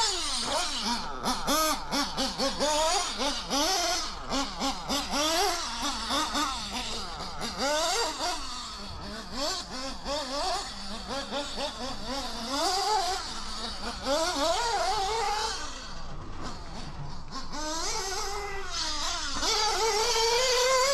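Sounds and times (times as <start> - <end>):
model car nitro engine revving: 0.0 - 20.9.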